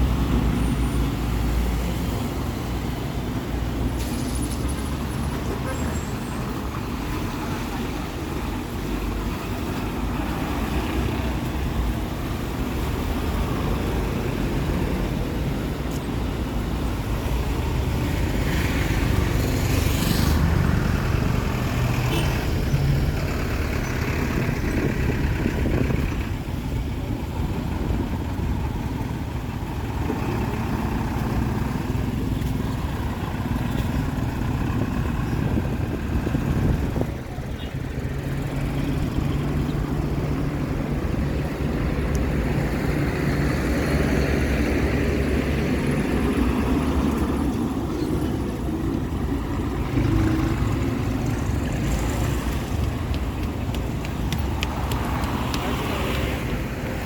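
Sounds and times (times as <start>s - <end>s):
traffic rumble: 0.0s - 57.0s
vehicles passing: 0.0s - 57.0s.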